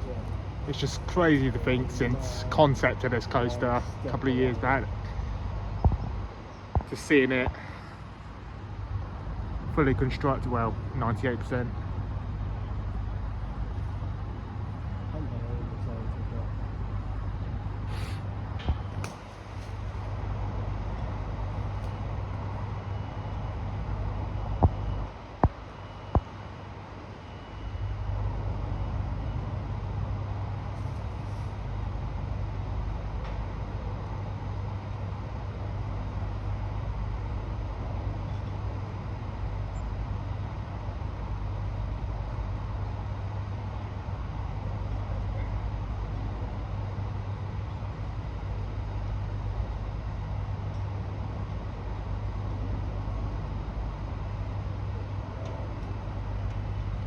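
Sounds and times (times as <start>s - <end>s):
heavy engine humming: 0.0s - 57.0s.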